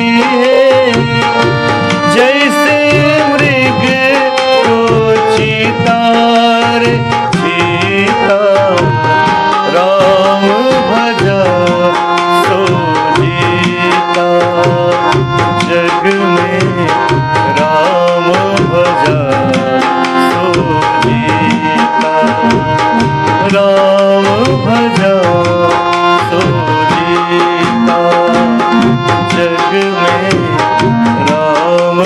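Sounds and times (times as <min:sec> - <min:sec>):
harmonium held notes: 0:00.0 - 0:32.0
tabla playing a steady rhythm: 0:00.0 - 0:32.0.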